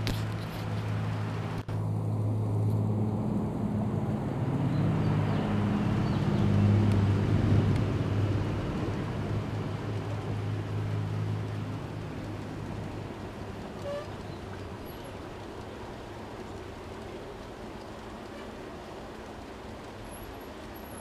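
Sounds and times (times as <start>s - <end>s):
wheels rumbling on rails: 0.0s - 21.0s.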